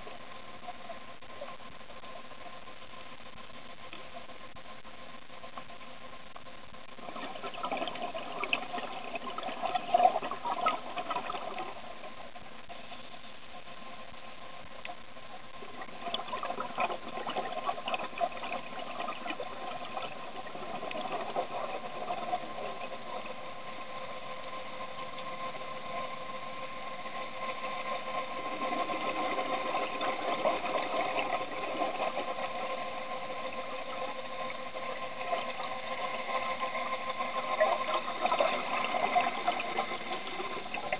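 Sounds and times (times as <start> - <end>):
regulator bubbles gurgling underwater: 0.0 - 40.9
steady mechanical hum: 0.0 - 40.9.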